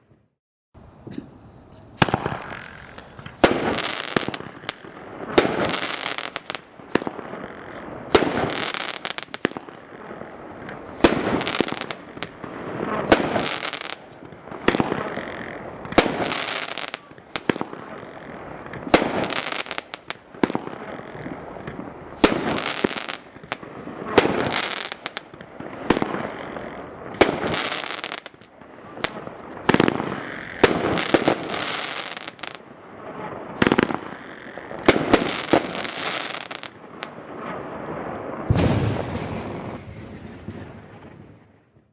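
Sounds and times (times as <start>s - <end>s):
fireworks bangs: 1.0s - 41.9s.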